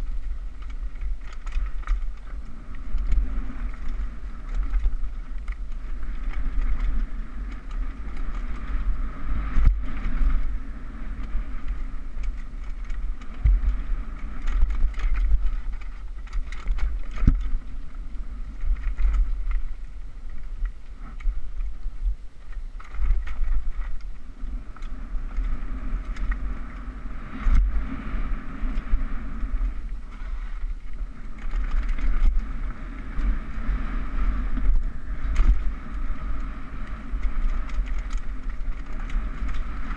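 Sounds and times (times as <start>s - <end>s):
bike rattling over ground: 0.0s - 39.9s
wind rush and rumble: 0.0s - 39.9s.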